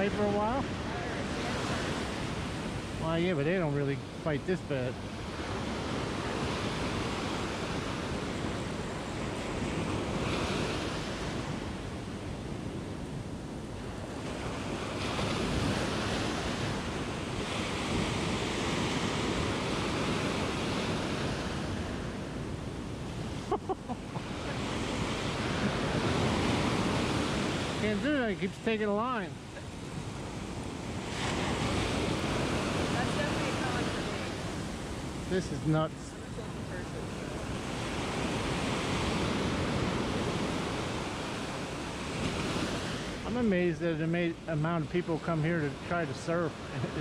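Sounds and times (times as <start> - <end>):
ocean waves breaking on beach: 0.0 - 47.0.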